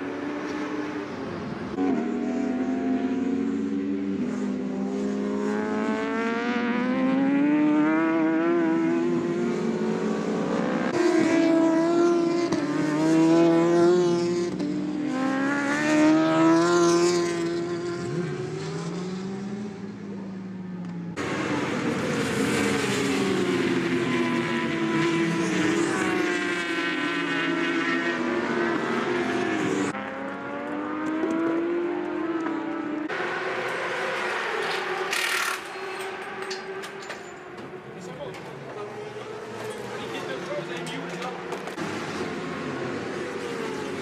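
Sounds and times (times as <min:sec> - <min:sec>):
racing motorcycles at high revs: 0:00.0 - 0:37.6, 0:38.5 - 0:44.0.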